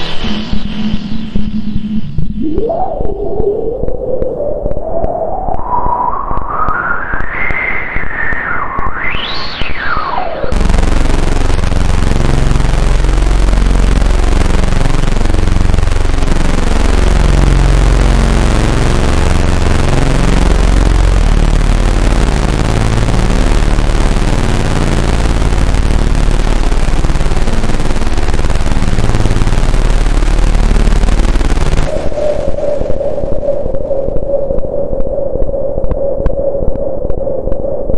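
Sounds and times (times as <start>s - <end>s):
deep bass drone: 0.0s - 6.4s, 9.2s - 37.9s
low synth notes: 0.0s - 6.4s, 8.4s - 35.9s
synthesizer noise wall: 0.0s - 37.9s.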